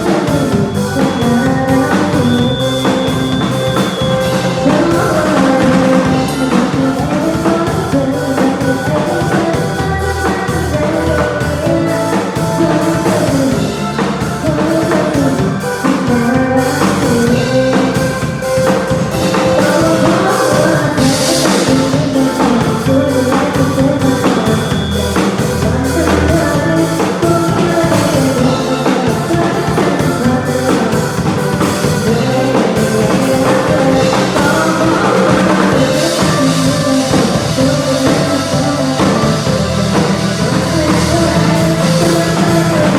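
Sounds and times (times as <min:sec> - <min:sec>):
band playing live: 0:00.0 - 0:42.9
drum kit beat: 0:00.0 - 0:42.9.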